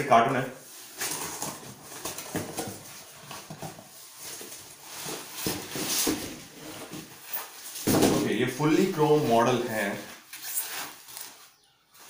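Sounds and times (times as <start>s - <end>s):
cardboard and foam rustling: 0.7s - 12.0s.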